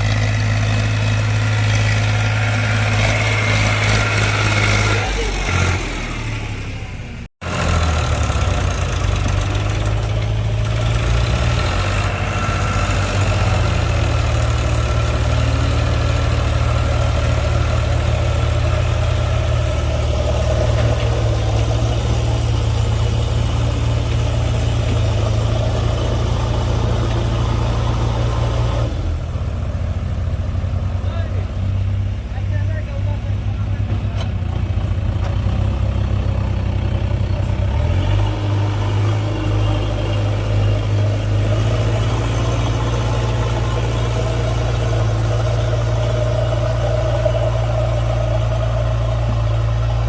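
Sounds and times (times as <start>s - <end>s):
diesel machinery engine running: 0.0s - 50.0s.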